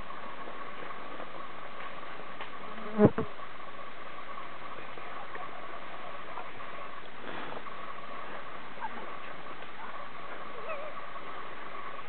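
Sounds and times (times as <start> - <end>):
insects droning hum: 0.0 - 12.0.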